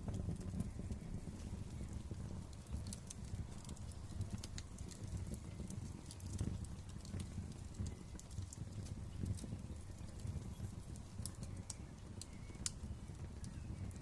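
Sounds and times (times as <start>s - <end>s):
fire pops and snaps: 0.0s - 14.0s
low rumble of flame: 0.0s - 14.0s.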